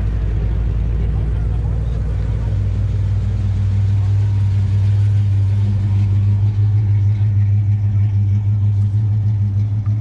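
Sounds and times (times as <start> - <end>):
car engine running low drone: 0.0 - 10.0.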